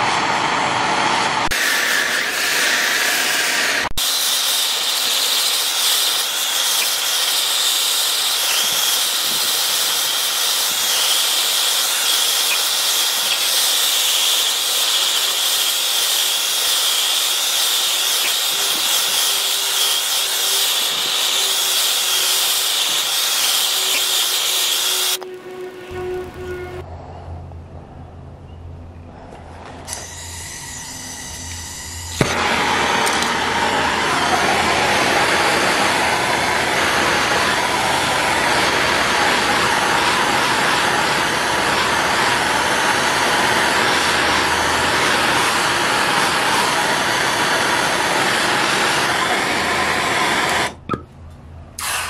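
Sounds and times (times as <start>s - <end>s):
gas burner flame hissing: 0.0s - 25.2s, 32.0s - 50.8s.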